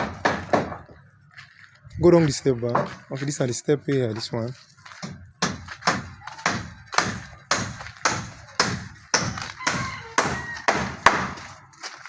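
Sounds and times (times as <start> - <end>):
footsteps walking: 0.7 - 12.0.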